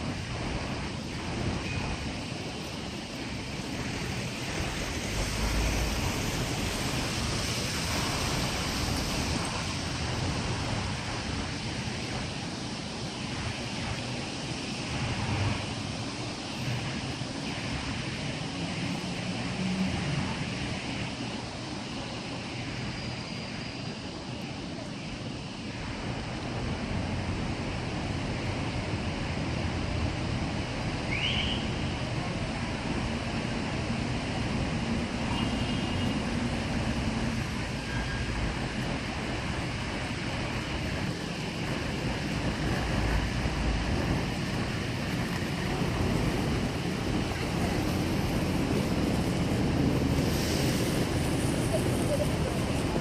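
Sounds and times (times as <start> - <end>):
distant traffic rumble: 0.0 - 53.0
wind blowing across microphone: 0.0 - 53.0.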